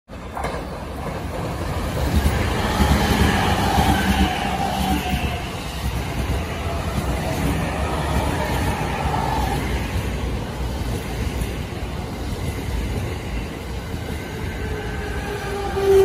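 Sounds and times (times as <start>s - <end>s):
train wheels rumbling on rails: 0.1s - 16.0s
faint train whine: 0.2s - 16.0s.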